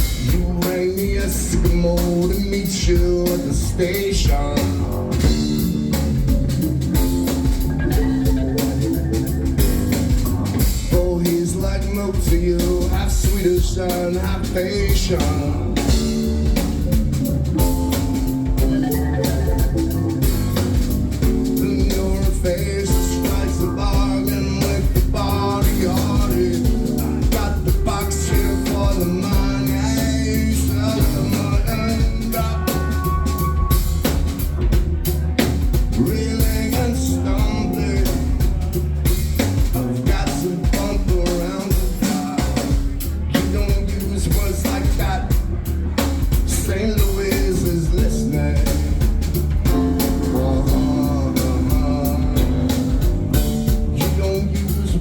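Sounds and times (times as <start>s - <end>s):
drum kit groove: 0.0s - 55.0s
guitar: 0.0s - 55.0s
heavy bass line: 0.0s - 55.0s.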